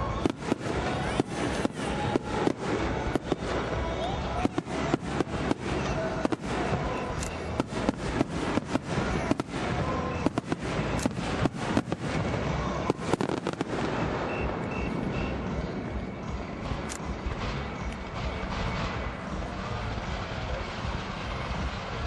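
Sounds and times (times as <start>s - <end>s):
fireworks bursting and crackling: 0.0s - 22.0s
fireworks rumble: 0.0s - 22.0s.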